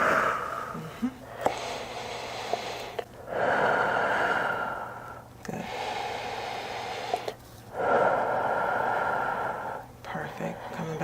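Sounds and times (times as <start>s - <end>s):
person breathing deeply: 0.0s - 10.0s.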